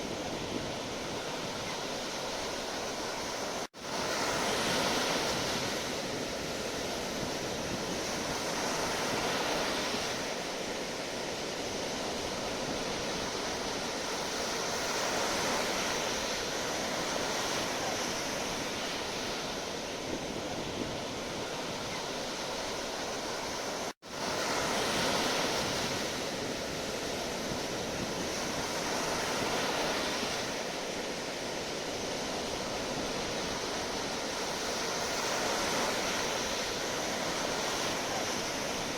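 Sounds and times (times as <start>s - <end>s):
sea waves washing onto shore: 0.0s - 38.9s.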